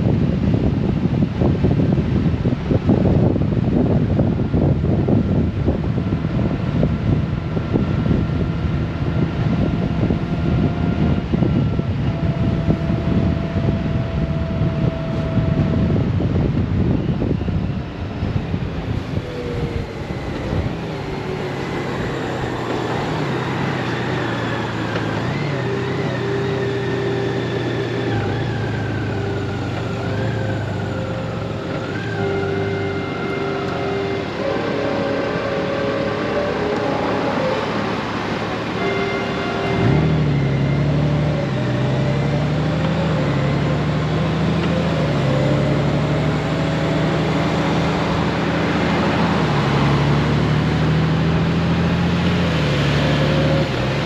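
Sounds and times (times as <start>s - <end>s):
passing traffic: 0.0s - 54.0s
wind rumble on microphone: 0.0s - 54.0s
motorcycle engine: 1.4s - 54.0s.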